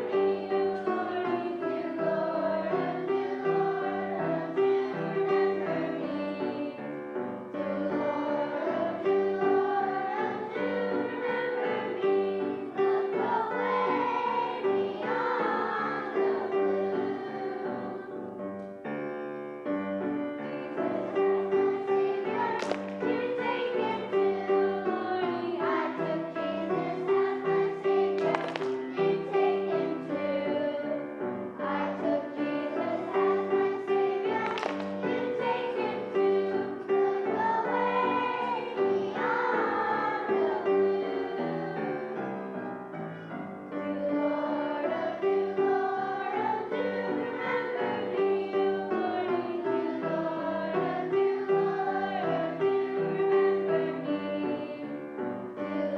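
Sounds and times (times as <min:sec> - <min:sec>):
group of voices singing: 0:00.0 - 0:18.4, 0:20.2 - 0:43.0, 0:43.7 - 0:55.9.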